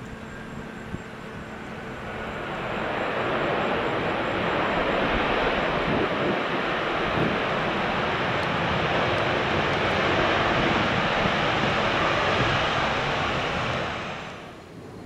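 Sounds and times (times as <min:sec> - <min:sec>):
jet engines roaring: 0:00.0 - 0:14.6.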